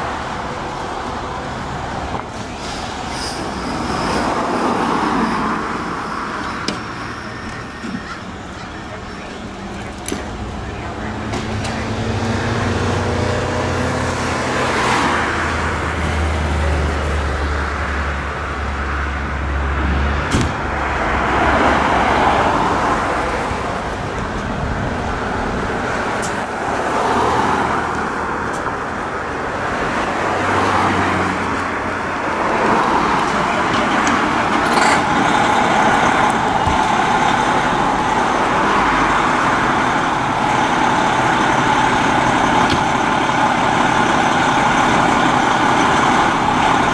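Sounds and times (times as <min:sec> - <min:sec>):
cars passing: 0:00.0 - 0:46.9.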